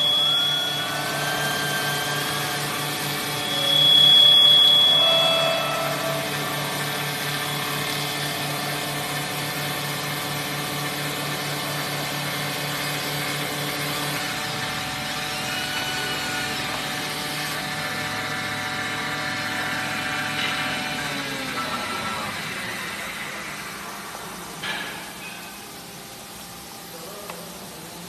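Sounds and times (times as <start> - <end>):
lathe machine hum: 0.0 - 26.9.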